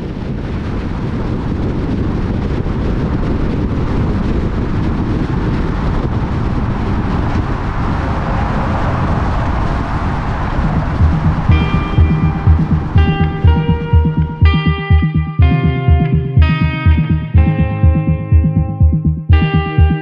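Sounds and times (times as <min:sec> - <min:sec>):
low tyre rumble: 0:00.0 - 0:19.4
wind rushing over microphone: 0:00.0 - 0:20.0.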